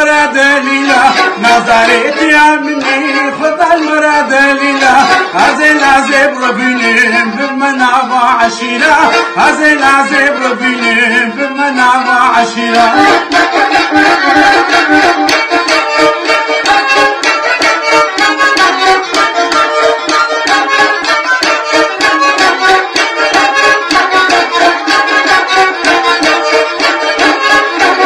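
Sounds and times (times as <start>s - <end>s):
bowed fiddle playing fast notes: 0.0s - 28.0s
man singing: 0.0s - 28.0s.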